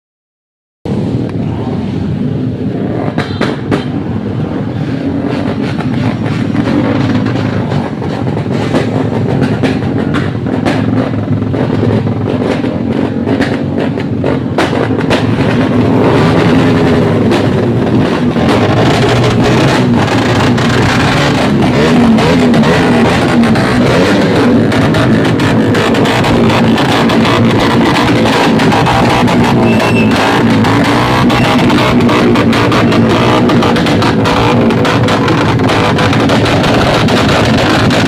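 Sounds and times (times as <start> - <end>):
engine running: 0.9 - 38.0
exhaust popping and crackling: 0.9 - 38.0.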